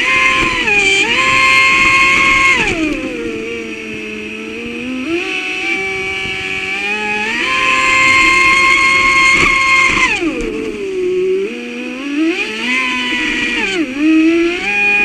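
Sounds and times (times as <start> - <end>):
boat motor whining: 0.0 - 15.0.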